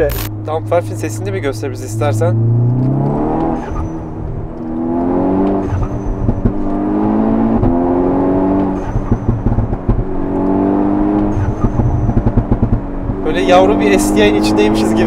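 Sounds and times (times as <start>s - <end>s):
turbocharged car engine accelerating: 0.0s - 15.0s.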